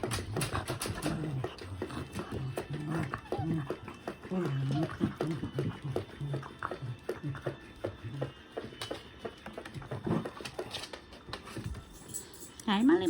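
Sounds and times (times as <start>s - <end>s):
dogs play growling: 0.0s - 11.4s
paws clicking and scuffling: 0.0s - 13.0s.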